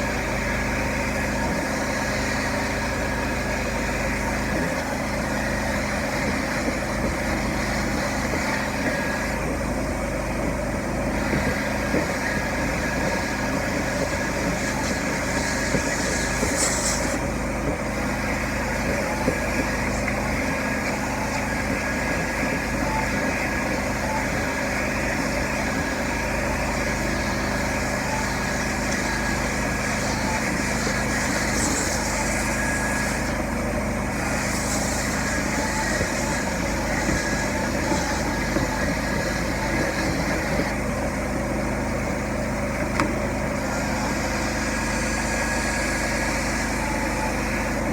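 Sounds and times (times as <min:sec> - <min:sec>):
carpet extraction machine running: 0:00.0 - 0:47.9.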